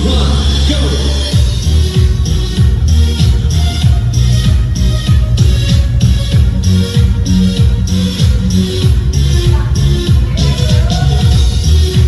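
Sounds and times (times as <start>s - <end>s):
electronic dance music: 0.0s - 12.0s
pounding kick drum: 1.3s - 12.0s.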